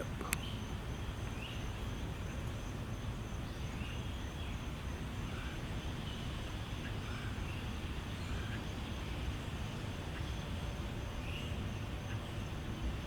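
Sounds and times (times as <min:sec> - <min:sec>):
faint bird chirps: 0:00.0 - 0:10.5
low outdoor rumble: 0:00.0 - 0:13.0.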